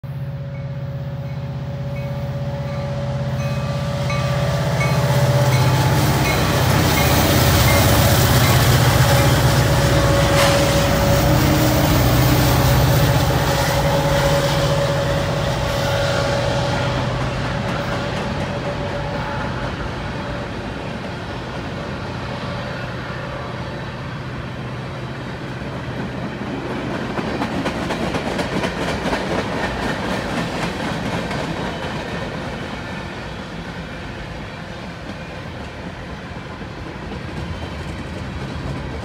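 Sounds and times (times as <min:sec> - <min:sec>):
diesel locomotive engines whining: 0:00.0 - 0:39.0
freight cars rolling on rails: 0:01.2 - 0:39.0.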